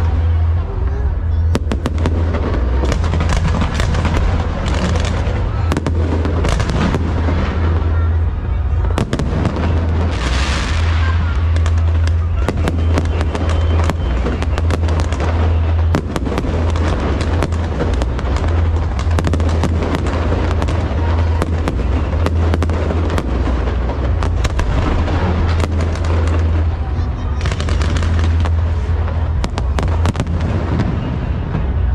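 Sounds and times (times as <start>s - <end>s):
fireworks booming and cracking: 0.0s - 31.9s
fireworks hissing: 1.6s - 31.2s.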